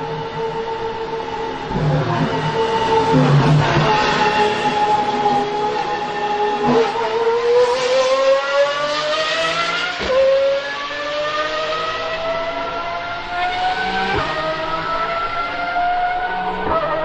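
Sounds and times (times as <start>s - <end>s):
car engine accelerating hard: 0.5s - 17.0s.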